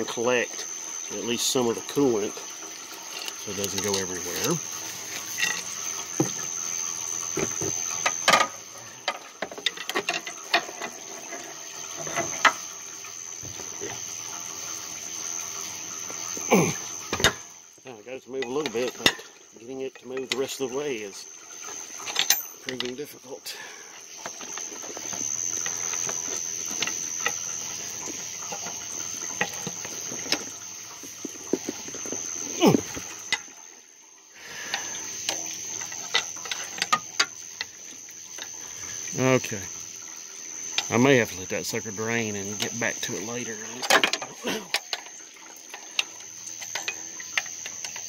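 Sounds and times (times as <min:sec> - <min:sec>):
liquid trickling into a pan: 0:00.0 - 0:48.0.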